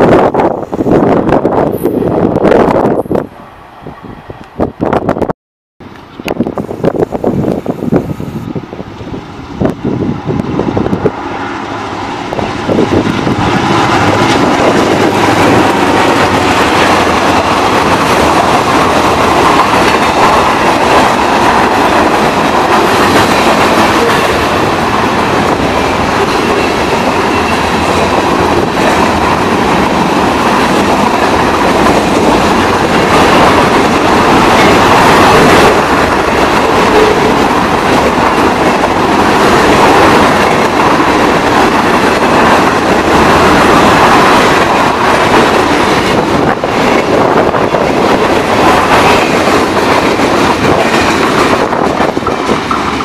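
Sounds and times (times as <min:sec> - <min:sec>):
freight train rolling past: 0:00.0 - 0:53.0
wheels clacking over rail joints: 0:10.4 - 0:53.0.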